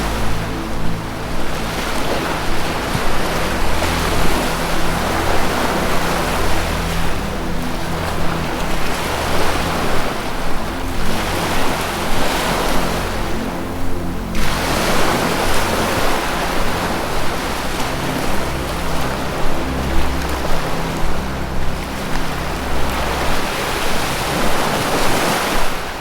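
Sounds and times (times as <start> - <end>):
ocean surf washing: 0.0 - 26.0
soft low music drone: 0.0 - 26.0.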